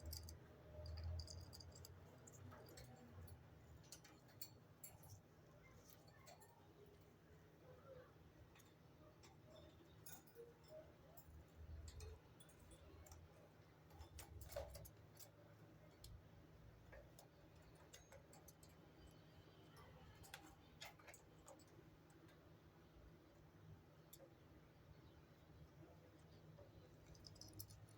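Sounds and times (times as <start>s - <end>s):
faint small clicks and ticks: 0.0s - 27.9s.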